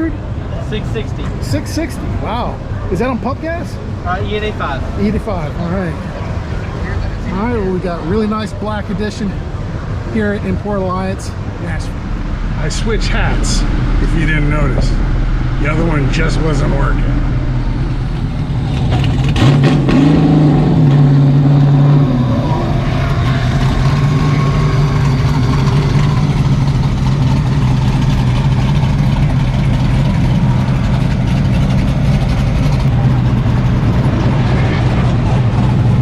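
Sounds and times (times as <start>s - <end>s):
car engine revving: 3.8s - 36.0s.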